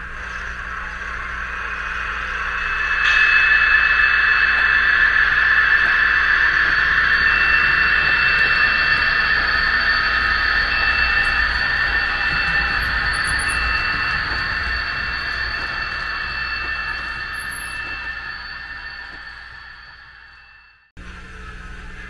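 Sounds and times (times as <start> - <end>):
simulated diesel engine drone: 0.0 - 22.0.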